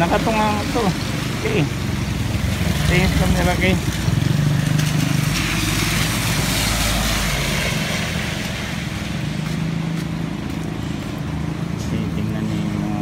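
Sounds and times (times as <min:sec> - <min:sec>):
engine hum: 0:00.0 - 0:13.0
tyres hissing on wet pavement: 0:00.0 - 0:13.0.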